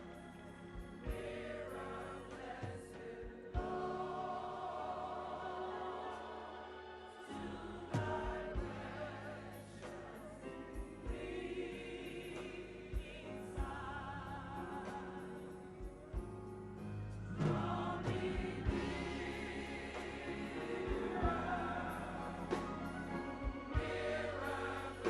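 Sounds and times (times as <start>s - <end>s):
gospel choir singing: 0.0s - 25.0s
organ accompaniment: 0.0s - 25.0s.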